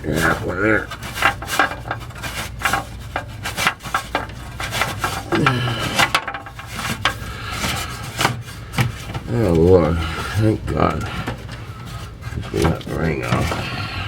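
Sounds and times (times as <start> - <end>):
metal scraping: 0.0 - 14.0.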